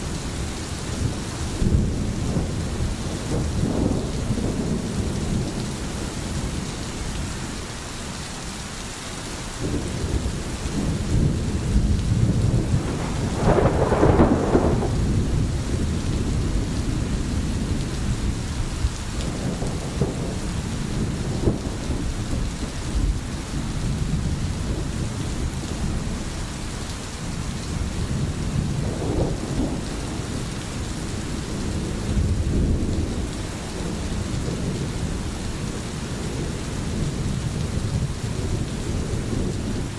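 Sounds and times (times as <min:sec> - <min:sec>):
low rolling thunder: 0:00.0 - 0:07.6, 0:09.6 - 0:39.9
steady rain: 0:00.0 - 0:39.9.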